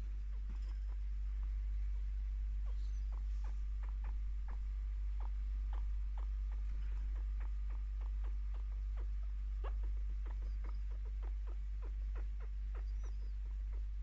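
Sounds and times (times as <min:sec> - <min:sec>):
chinchilla chirping: 0:00.0 - 0:14.0
steady low hum: 0:00.0 - 0:14.0.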